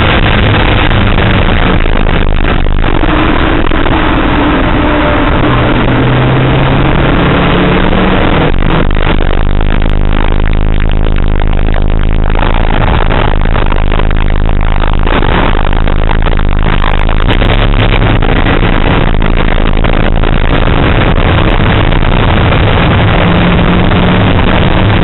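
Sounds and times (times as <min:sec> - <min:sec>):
car engine running hard: 0:00.0 - 0:25.0
road and wind noise: 0:00.0 - 0:25.0.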